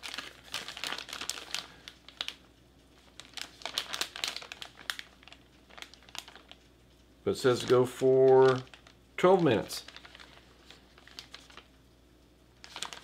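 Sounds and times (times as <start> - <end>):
plastic pouch crinkling: 0.0 - 6.7, 7.3 - 11.8, 12.6 - 13.0.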